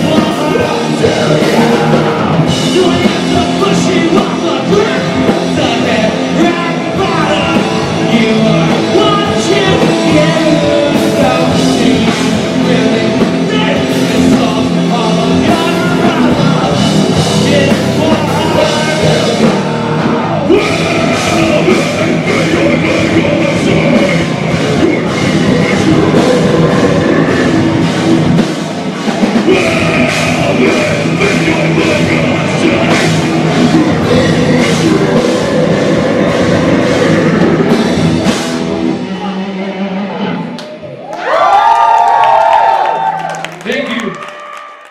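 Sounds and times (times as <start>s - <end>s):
person singing: 0.0s - 28.4s, 29.2s - 40.8s
drum kit: 0.0s - 39.5s
bass guitar: 0.0s - 44.0s
electric guitars: 0.0s - 44.9s.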